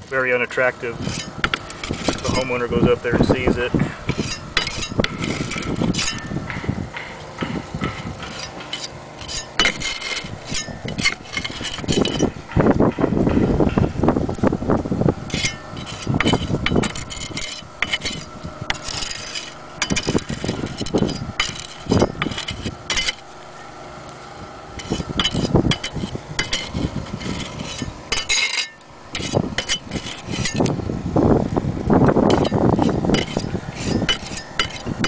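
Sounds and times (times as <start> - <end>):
hand tool scraping compound: 0.1 - 12.4, 15.3 - 23.4, 24.8 - 30.8, 32.1 - 35.0.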